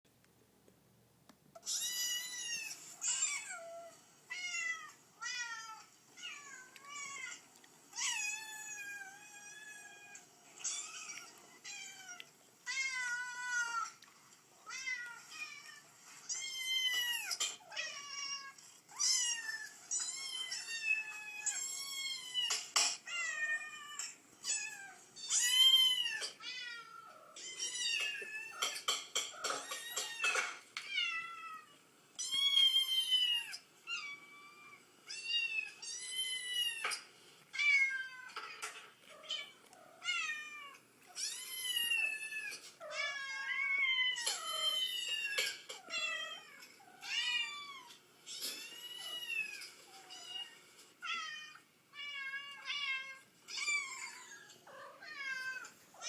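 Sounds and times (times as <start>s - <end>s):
cats and kittens meowing: 1.6s - 56.0s.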